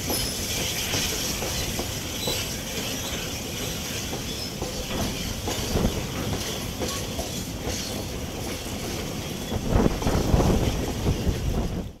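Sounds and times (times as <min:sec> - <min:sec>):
train wheels clattering over rail joints: 0:00.0 - 0:11.9.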